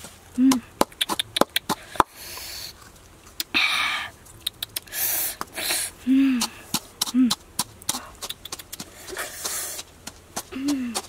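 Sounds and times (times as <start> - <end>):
rustling hiss: 0.0 - 11.0.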